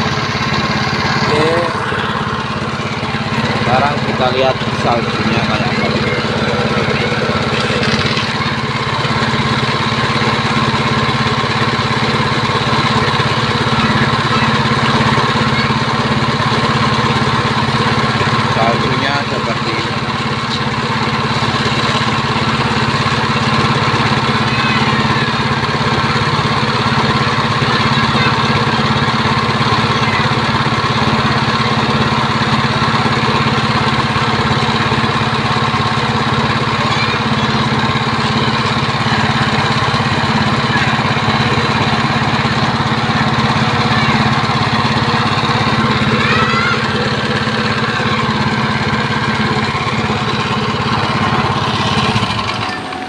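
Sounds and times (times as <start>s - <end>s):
small petrol engine running: 0.0s - 53.0s.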